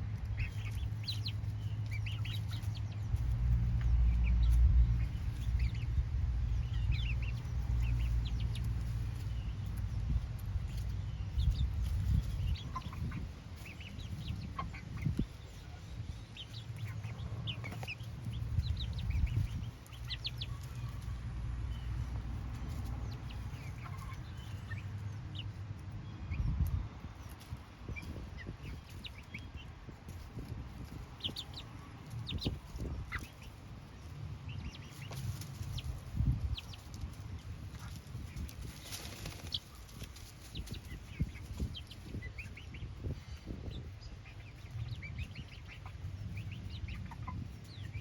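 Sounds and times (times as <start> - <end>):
chickens clucking: 0.0 - 48.0
low uneven rumble: 0.0 - 48.0.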